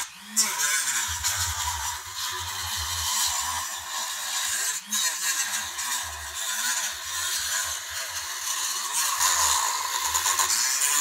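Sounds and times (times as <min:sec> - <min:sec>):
rotary tool grinding plastic: 0:00.0 - 0:11.0.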